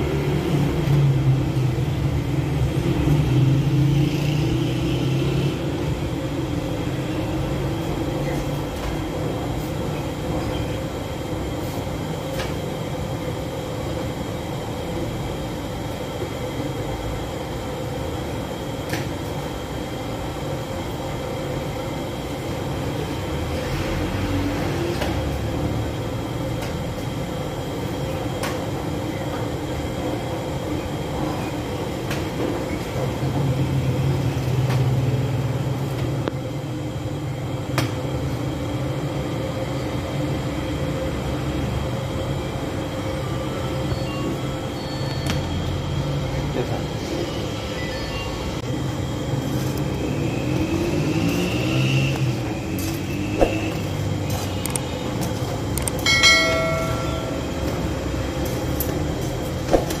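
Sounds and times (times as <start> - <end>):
gas oven burning roar: 0.0 - 60.0.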